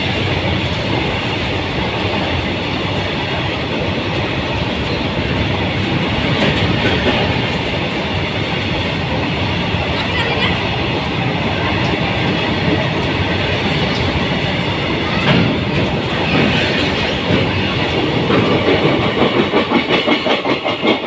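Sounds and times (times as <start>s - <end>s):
freight train wheels clattering: 0.0s - 21.0s.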